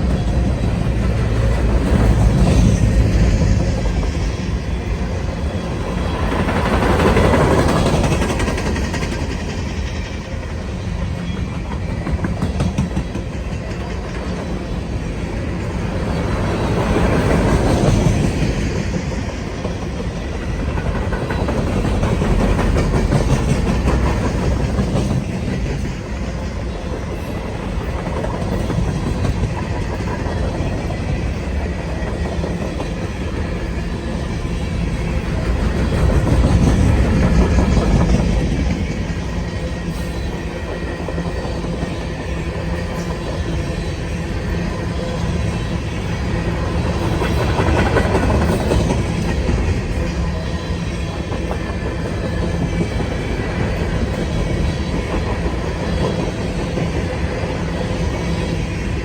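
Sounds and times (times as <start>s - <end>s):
train wheels clacking over rail joints: 0.0s - 59.0s.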